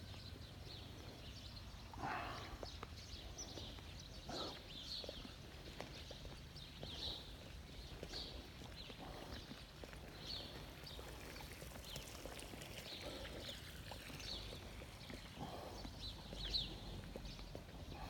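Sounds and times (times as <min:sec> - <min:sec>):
small birds chirping: 0:00.0 - 0:18.0
soft footsteps on paving: 0:00.0 - 0:18.0.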